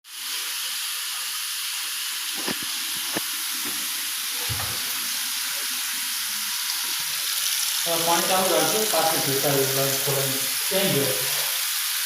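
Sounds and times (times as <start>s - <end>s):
water running hard from tap: 0.1s - 12.0s.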